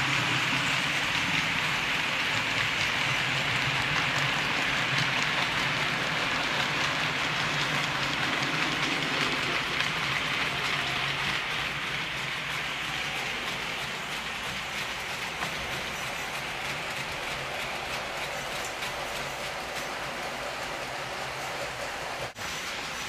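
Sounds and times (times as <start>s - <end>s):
model train wheels rattling on rails: 0.0s - 23.0s.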